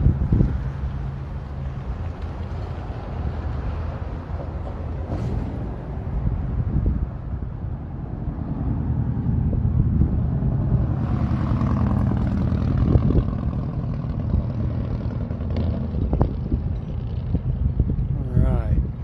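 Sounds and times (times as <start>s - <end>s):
diesel engines running: 0.0s - 19.0s.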